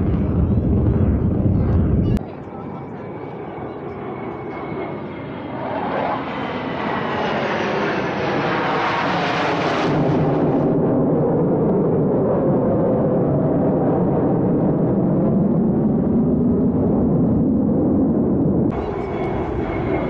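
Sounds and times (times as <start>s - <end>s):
military jets roaring overhead: 0.0s - 20.0s.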